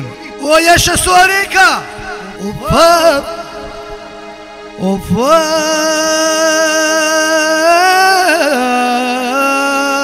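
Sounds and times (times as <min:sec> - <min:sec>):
steady drone: 0:00.1 - 0:10.0.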